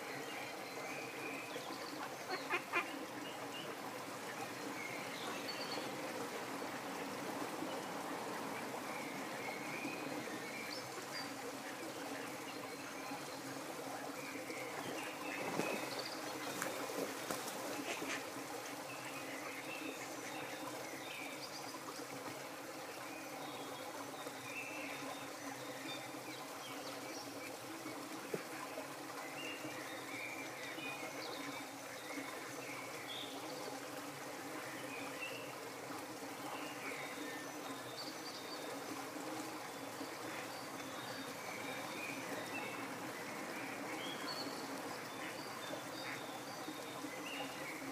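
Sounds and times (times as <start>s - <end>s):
water trickling: 0.0s - 47.9s.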